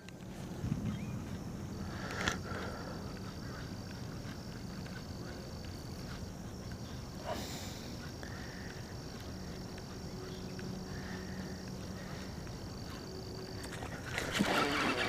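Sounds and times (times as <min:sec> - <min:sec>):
high-pitched insect and frog calls: 0:00.8 - 0:15.0.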